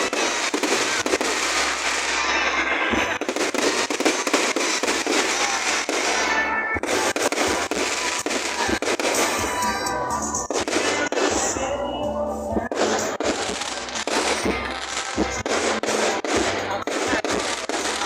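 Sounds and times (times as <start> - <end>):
fireworks cracking and popping: 0.0 - 18.0.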